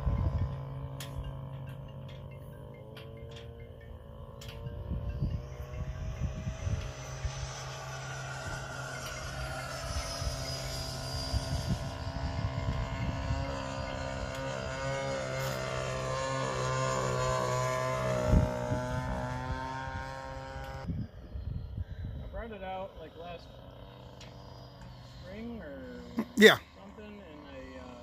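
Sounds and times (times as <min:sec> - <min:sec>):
model airplane motor drone: 0:00.0 - 0:28.0.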